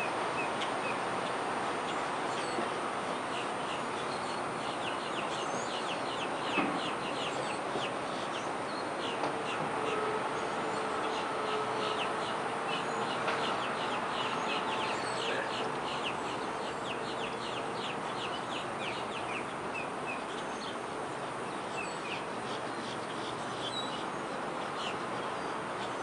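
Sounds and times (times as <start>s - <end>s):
outdoor background rush: 0.0s - 26.0s
birds chirping and chattering: 0.4s - 26.0s.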